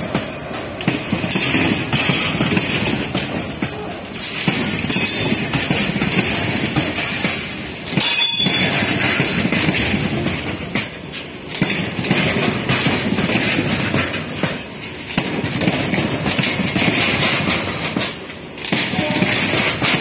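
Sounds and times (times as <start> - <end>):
freight train rumbling and rattling: 0.0 - 20.0
wheels clacking over rail joints: 0.0 - 20.0.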